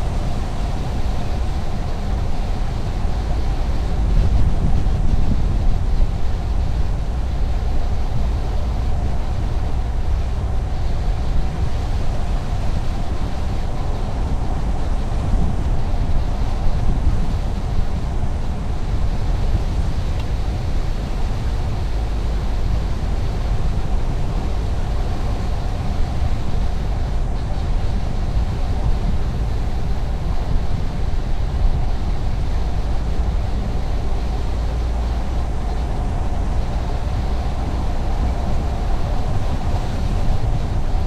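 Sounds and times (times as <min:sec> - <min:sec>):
car driving on road: 0:00.0 - 0:41.0.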